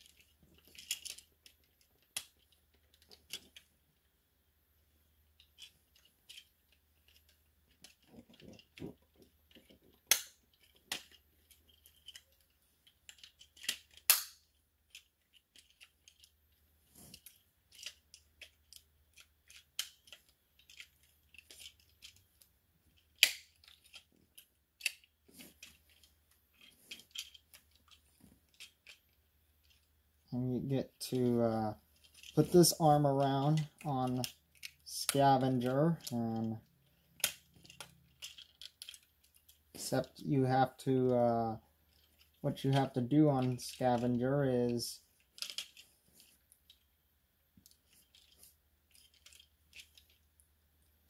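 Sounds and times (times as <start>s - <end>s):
plastic parts clicking and snapping: 0.0s - 4.1s, 5.1s - 30.0s, 31.7s - 40.2s, 41.8s - 51.0s.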